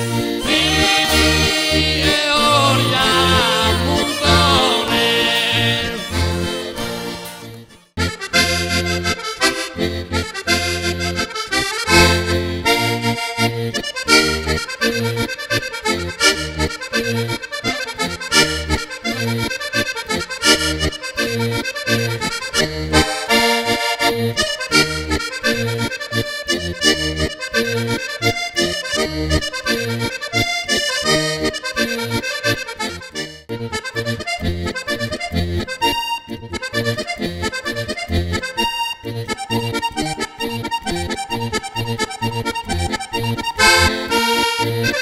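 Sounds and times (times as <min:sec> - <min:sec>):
button accordion dance tune: 0:00.0 - 0:45.0.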